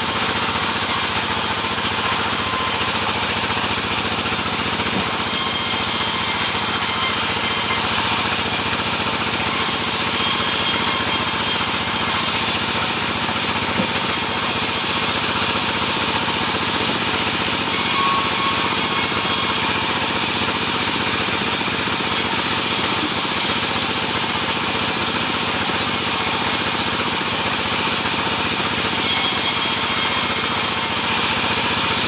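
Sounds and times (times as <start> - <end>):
sawmill machine drone: 0.0 - 32.0.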